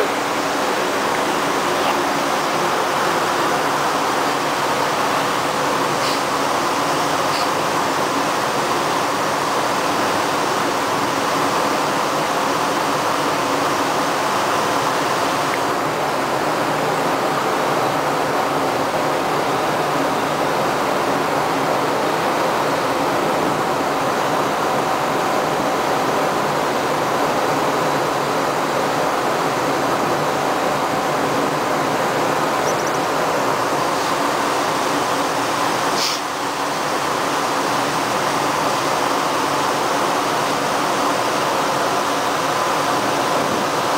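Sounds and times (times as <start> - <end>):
water rushing into lock: 0.0 - 43.9.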